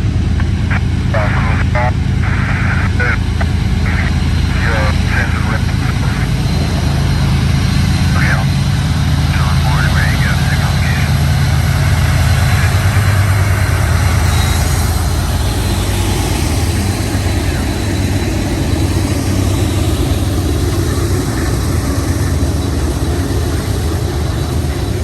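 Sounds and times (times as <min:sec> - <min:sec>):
diesel locomotive engine throbbing: 0:00.0 - 0:25.0.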